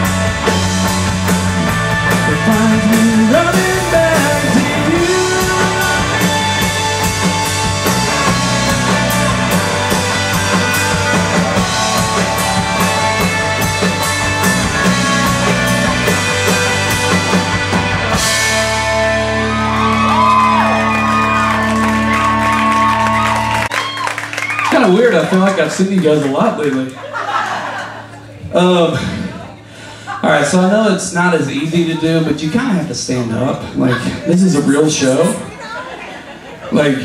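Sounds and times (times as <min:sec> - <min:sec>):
live rock band playing: 0:00.0 - 0:36.6.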